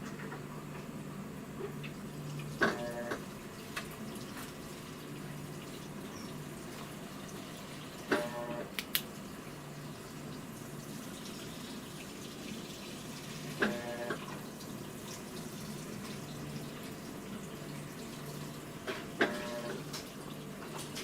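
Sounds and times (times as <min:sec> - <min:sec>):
water running into washer tub: 0:01.7 - 0:08.5, 0:09.1 - 0:21.0.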